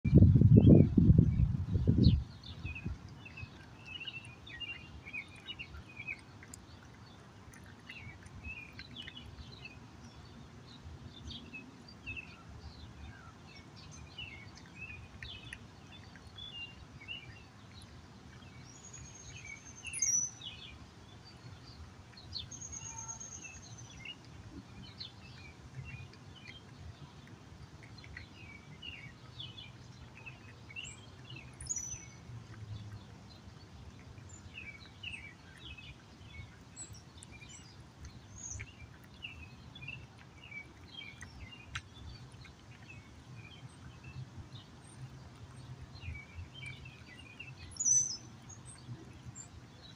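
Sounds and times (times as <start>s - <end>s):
songbirds chirping: 0.1s - 49.9s
cat chewing and lapping food: 2.5s - 19.4s, 23.5s - 49.9s.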